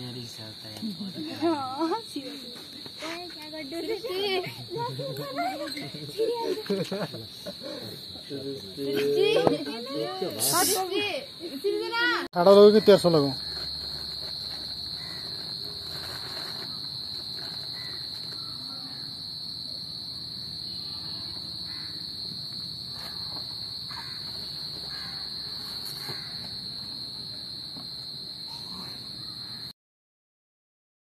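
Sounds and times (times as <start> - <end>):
insects chirring: 0.0 - 29.7.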